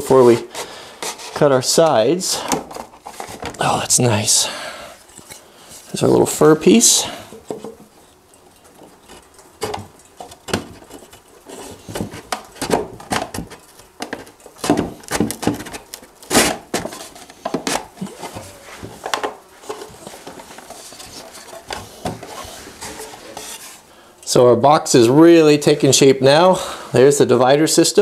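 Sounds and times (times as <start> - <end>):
wood scraping against wood: 0.0 - 4.3, 5.0 - 24.0.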